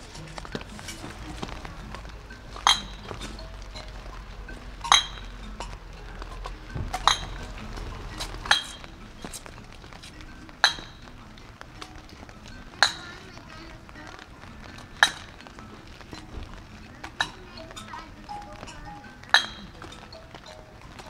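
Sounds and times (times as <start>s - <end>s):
faint music: 0.0s - 21.0s.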